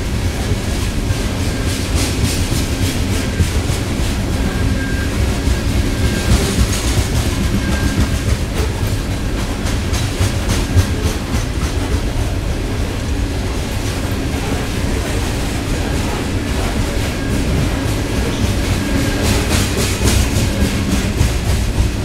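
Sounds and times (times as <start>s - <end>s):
freight train rumbling past: 0.0s - 22.0s
wheels clacking over rail joints: 0.0s - 22.0s.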